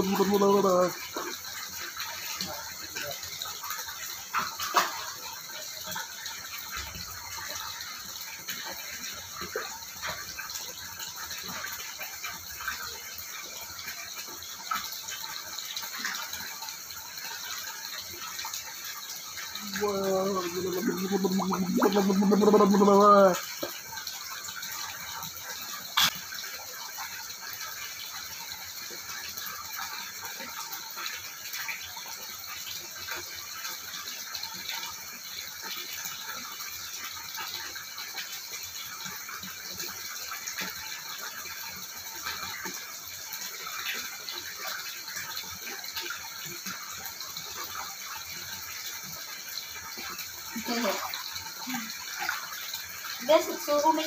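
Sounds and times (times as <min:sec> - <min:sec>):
pool water lapping: 0:00.0 - 0:54.0.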